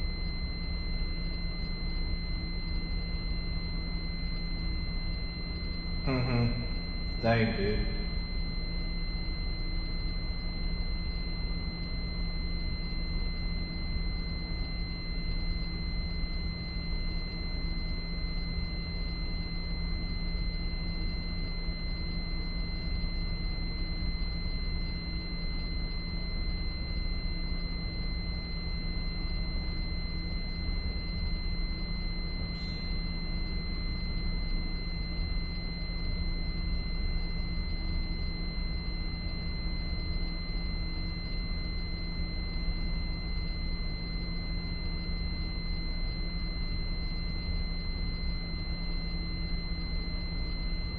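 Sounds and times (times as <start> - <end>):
high-pitched electronic alarm tone: 0.0 - 50.9
low steady hum: 0.0 - 50.9.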